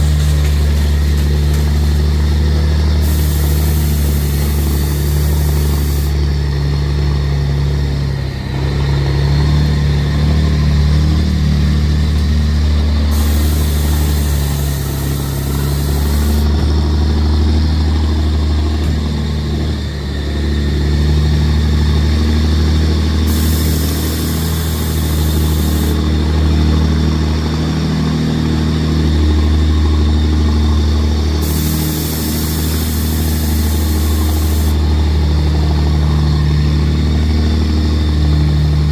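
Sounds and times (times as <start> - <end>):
truck engine droning: 0.0 - 38.9.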